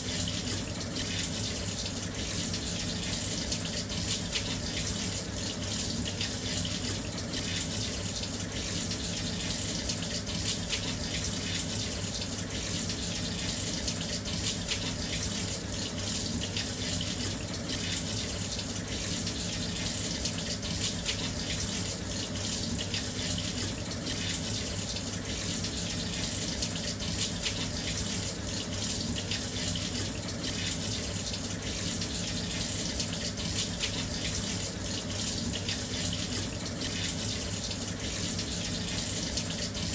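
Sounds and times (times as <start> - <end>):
water rushing into washing machine: 0.0 - 39.9.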